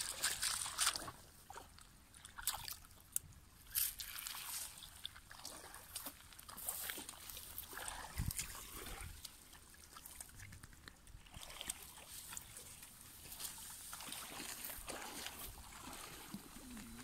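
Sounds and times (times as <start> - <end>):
dogs splashing in water: 0.0 - 2.9, 4.0 - 17.0
water trickling over stones: 0.0 - 17.0.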